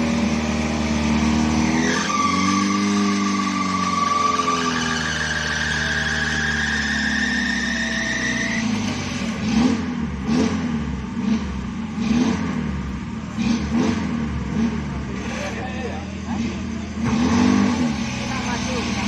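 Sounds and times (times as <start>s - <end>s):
off-road vehicle engine surging: 0.0s - 19.0s.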